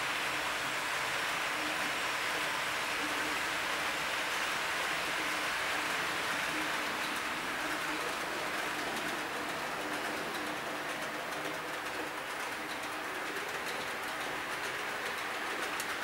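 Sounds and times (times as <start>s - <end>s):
model train wheels rolling on rails: 0.0s - 16.0s.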